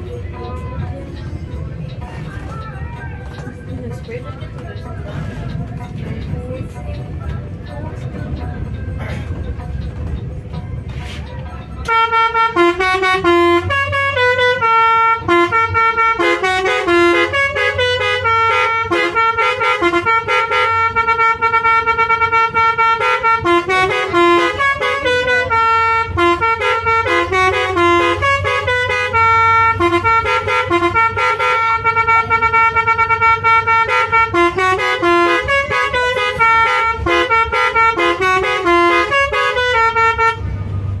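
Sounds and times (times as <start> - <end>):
bus horn playing melody: 4.8 - 41.0.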